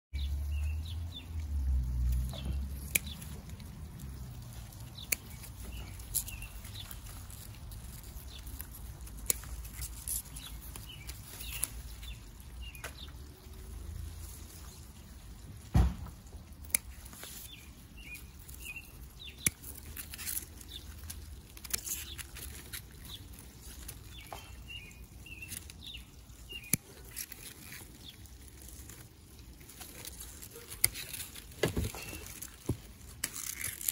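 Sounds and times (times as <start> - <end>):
small birds chirping: 0.1 - 33.9
vines rustling: 0.2 - 33.9
scissors snipping pods: 2.0 - 13.0, 16.6 - 29.0, 29.6 - 33.9.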